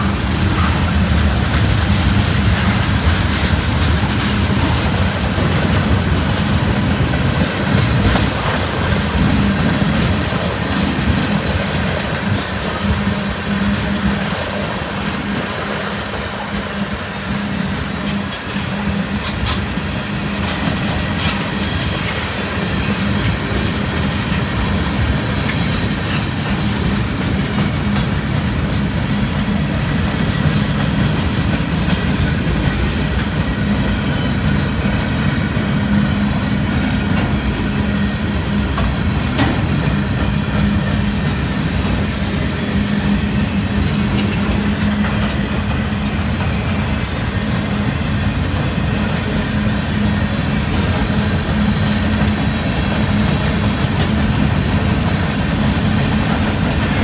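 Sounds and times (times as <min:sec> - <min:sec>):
freight train clacking on rails: 0:00.0 - 0:57.0.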